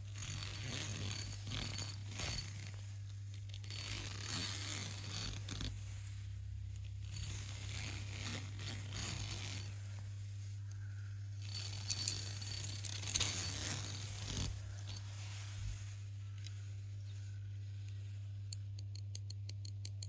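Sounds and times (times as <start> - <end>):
hand scraping a surface: 0.0 - 18.3
low electrical hum: 0.0 - 20.0.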